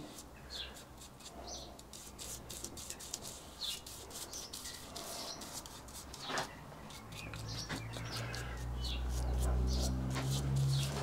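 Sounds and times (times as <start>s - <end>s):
paintbrush swishing paint: 0.0s - 11.0s.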